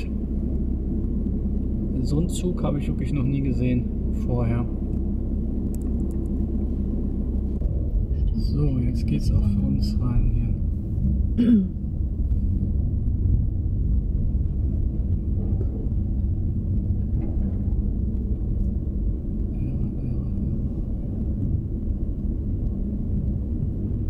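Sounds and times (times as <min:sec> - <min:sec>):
van engine and tyres rumbling: 0:00.0 - 0:24.0.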